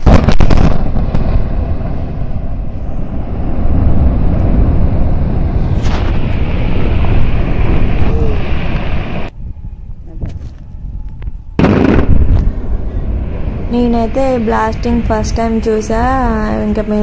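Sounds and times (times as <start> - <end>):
explosion sharp cracks: 0.0 - 9.3, 11.6 - 16.3
heavy low rumble: 0.0 - 17.0.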